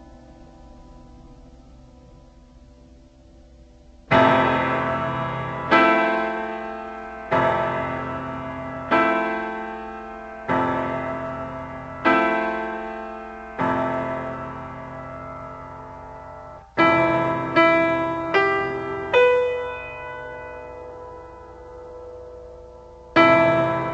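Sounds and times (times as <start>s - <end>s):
slow piano chords: 0.0s - 23.9s.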